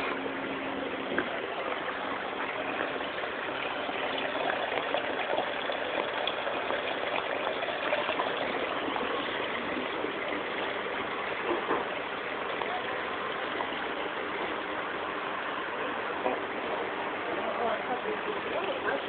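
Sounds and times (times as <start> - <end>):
water gushing over rocks: 0.0 - 19.0.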